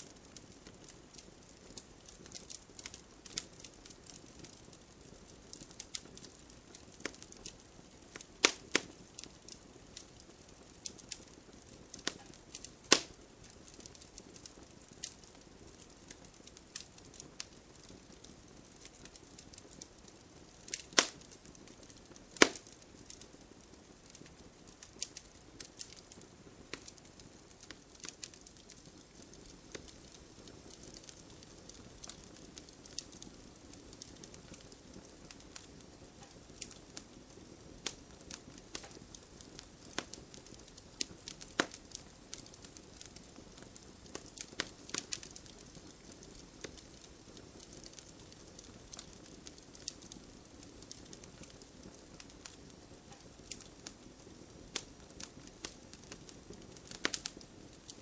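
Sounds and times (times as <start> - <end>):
bonfire crackling and popping: 0.0 - 58.0
faint hiss of rain: 0.0 - 58.0.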